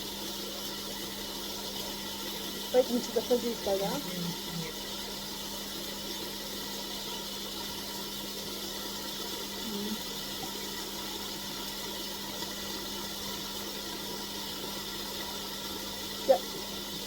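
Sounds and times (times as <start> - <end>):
cola fizzing in a pan: 0.0 - 17.0.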